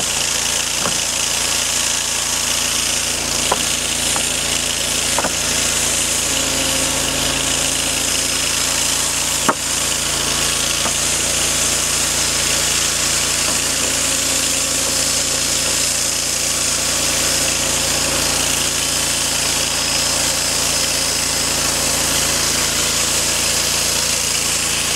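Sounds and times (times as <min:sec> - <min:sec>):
sawmill engine running: 0:00.0 - 0:24.9.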